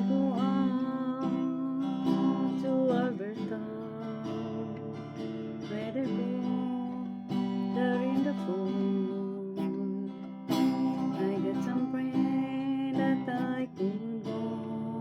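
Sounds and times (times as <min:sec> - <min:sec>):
acoustic guitar strumming: 0:00.0 - 0:15.0
held melody line: 0:00.0 - 0:15.0.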